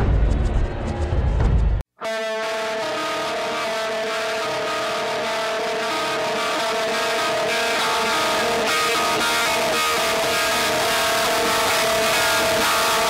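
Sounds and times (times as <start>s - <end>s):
sustained electric guitar music: 2.0s - 13.0s.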